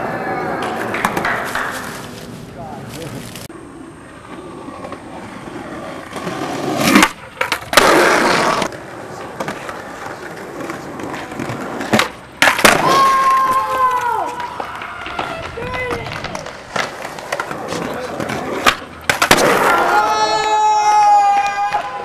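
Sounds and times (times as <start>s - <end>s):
skateboard scraping on concrete: 0.0s - 20.2s
skateboard wheels rolling on concrete: 0.0s - 22.0s
skateboard cracks: 0.4s - 3.5s, 4.3s - 22.0s.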